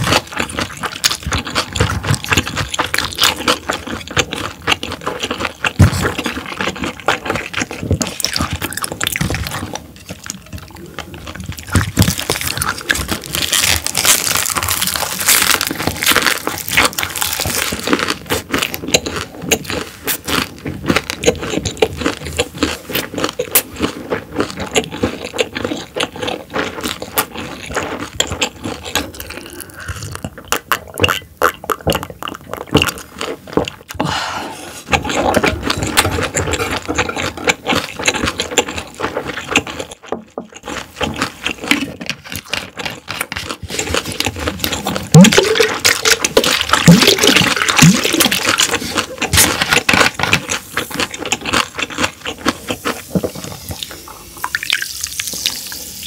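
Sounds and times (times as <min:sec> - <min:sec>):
close chewing with mouth clicks: 0:00.0 - 0:56.0.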